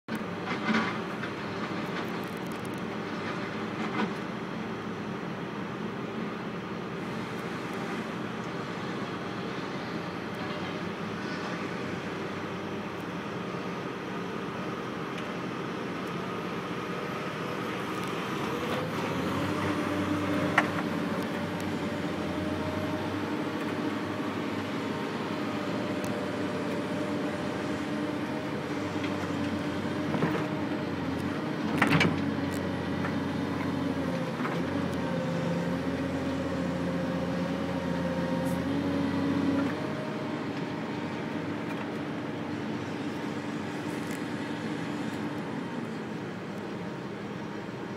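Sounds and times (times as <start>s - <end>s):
heavy diesel engine: 0.1s - 47.9s.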